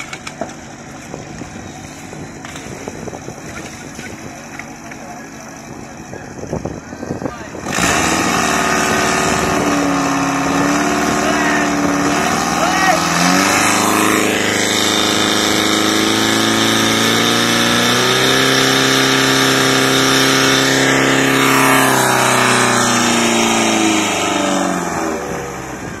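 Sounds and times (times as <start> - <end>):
pump engine running at high revs: 0.0 - 26.0.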